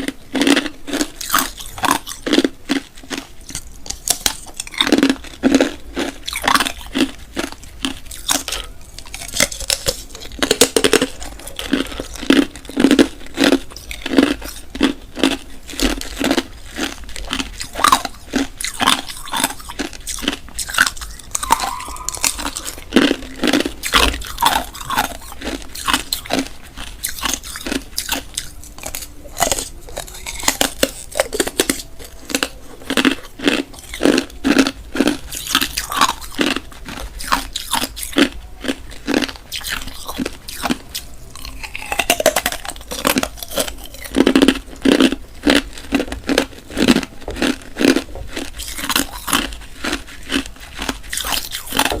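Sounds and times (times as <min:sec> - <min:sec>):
person crunching ice cubes: 0:00.0 - 0:52.0.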